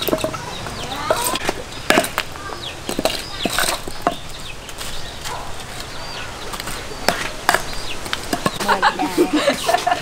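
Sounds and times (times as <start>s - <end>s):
wooden club knocking charcoal: 0.0s - 5.9s, 6.5s - 9.0s.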